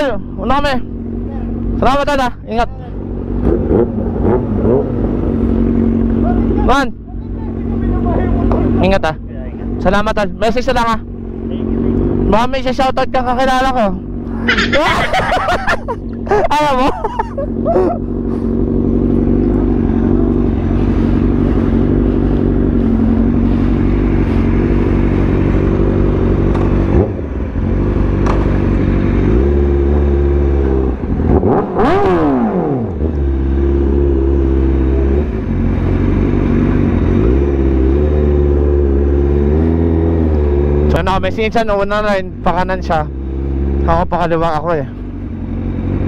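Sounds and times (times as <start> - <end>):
motorcycle engine idling and revving: 0.0 - 46.0.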